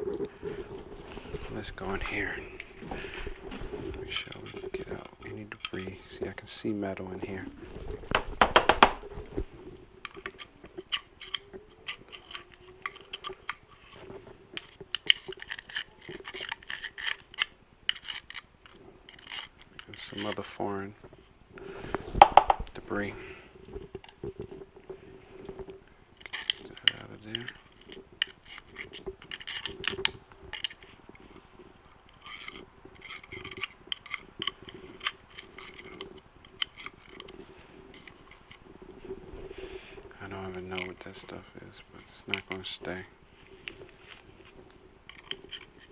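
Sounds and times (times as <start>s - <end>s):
faint steady hum: 0.0s - 45.9s
light clicks and scratching: 0.0s - 45.9s.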